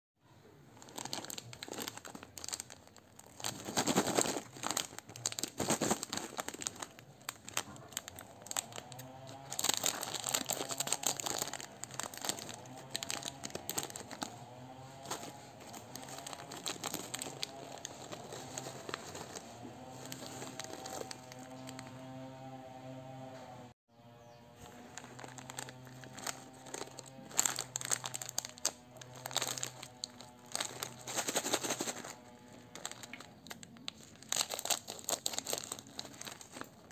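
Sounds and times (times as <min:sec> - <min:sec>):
foil packet crinkling: 0:00.7 - 0:22.0, 0:24.6 - 0:36.9.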